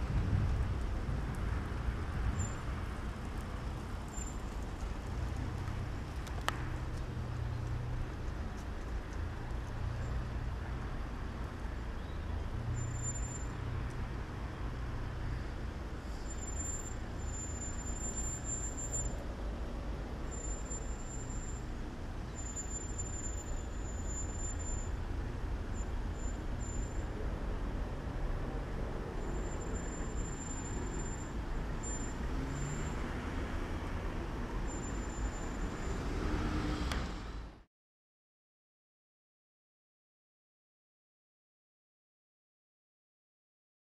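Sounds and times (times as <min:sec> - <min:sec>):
road traffic rumble: 0:00.0 - 0:37.7.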